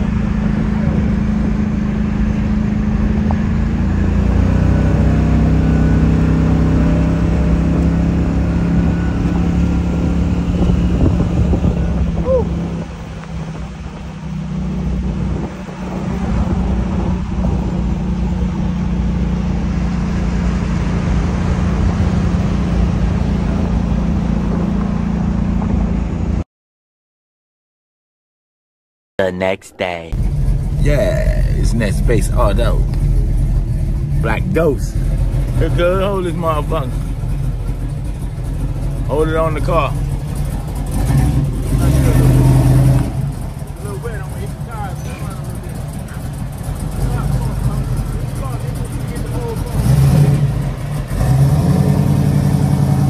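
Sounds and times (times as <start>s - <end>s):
car engine running: 0.0s - 26.4s, 29.2s - 53.0s.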